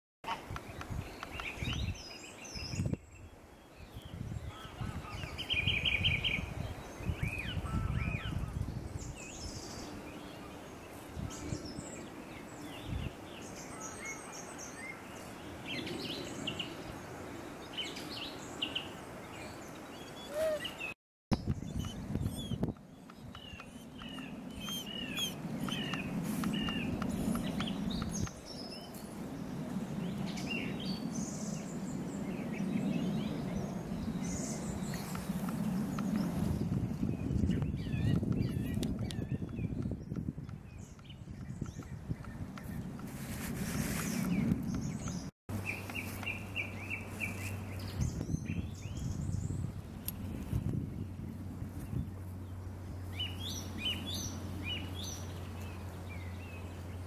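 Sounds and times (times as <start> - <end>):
wild birds chirping: 0.3 - 43.0, 43.9 - 50.1, 51.8 - 57.0.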